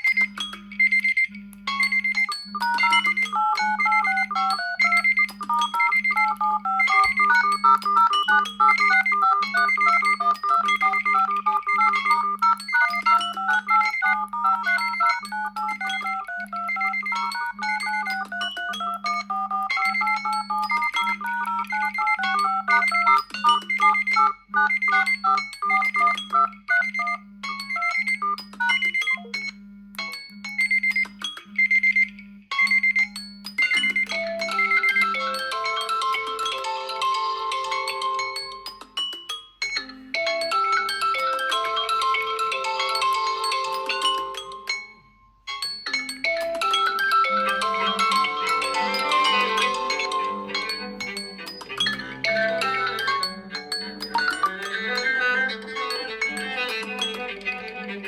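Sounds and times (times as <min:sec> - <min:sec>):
phone ringtone melody: 0:00.0 - 0:58.0.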